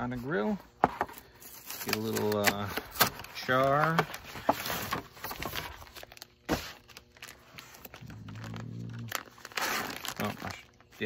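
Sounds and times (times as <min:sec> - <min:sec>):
packaging crinkling and rustling: 0:01.0 - 0:11.0.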